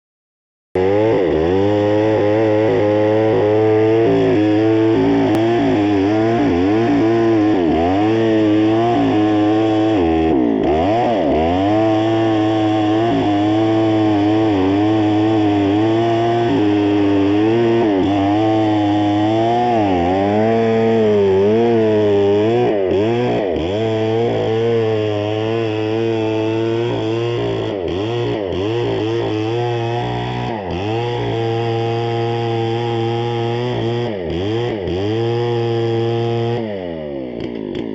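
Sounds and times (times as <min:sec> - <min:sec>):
power tool cutting wood: 0:00.8 - 0:37.9.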